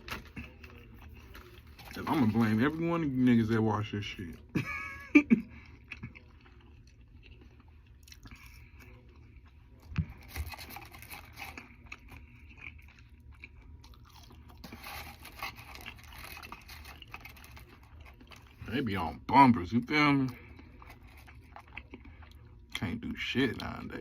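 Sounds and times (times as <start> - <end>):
person chewing food: 0.0 - 19.3, 19.9 - 24.0.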